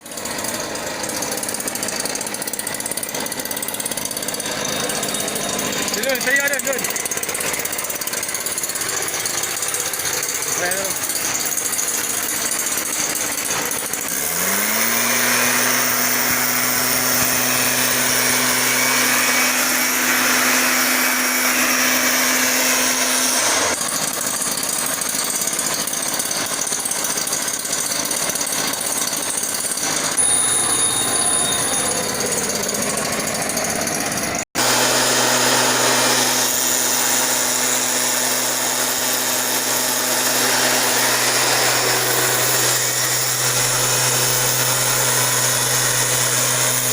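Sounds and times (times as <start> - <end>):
small engine running loudly: 0.0 - 46.9.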